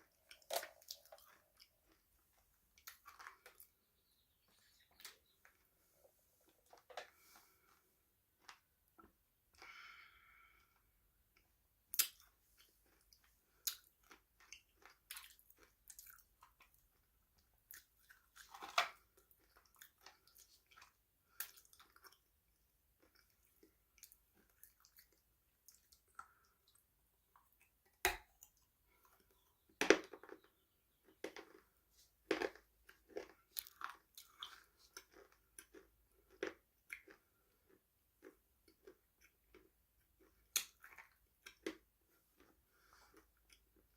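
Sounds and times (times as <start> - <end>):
chewing and crunching crisp food: 0.0 - 43.9.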